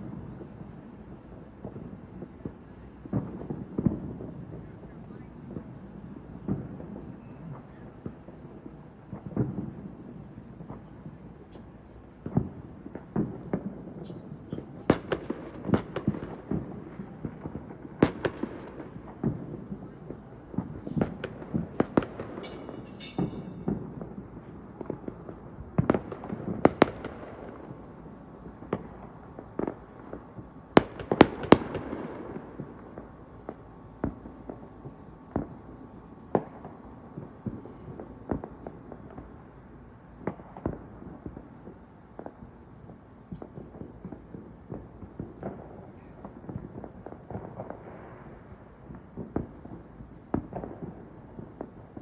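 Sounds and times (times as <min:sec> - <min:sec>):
fireworks bangs and pops: 0:00.0 - 0:52.0
fireworks crackling: 0:00.0 - 0:52.0.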